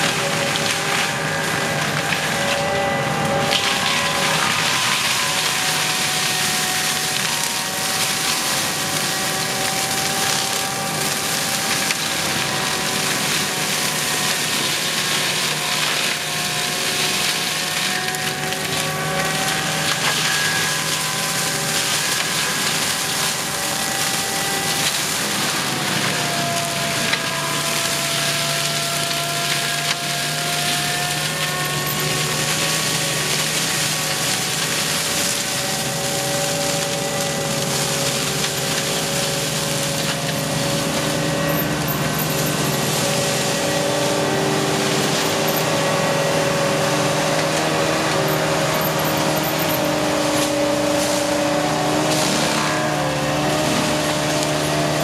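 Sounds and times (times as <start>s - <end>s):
machine whining: 0.0s - 55.0s
mulcher grinding wood: 0.0s - 55.0s.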